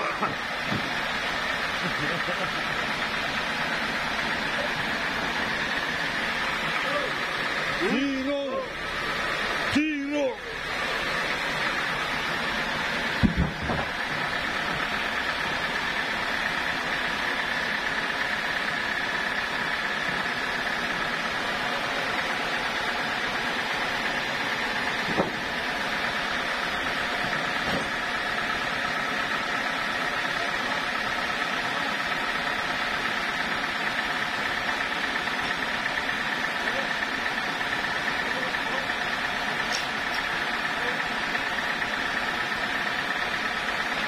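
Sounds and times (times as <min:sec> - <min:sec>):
sawmill machinery humming and whining: 0:00.0 - 0:44.0.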